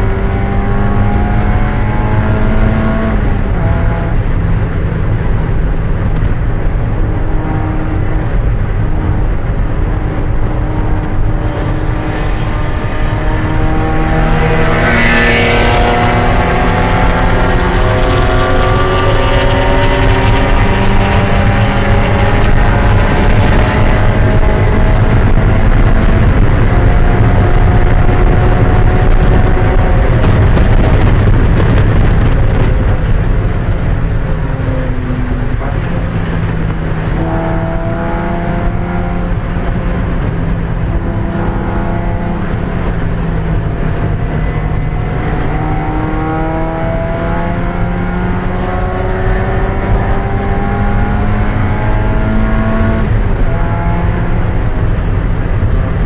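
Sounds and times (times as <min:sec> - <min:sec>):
car engine at race speed: 0:00.0 - 0:56.0.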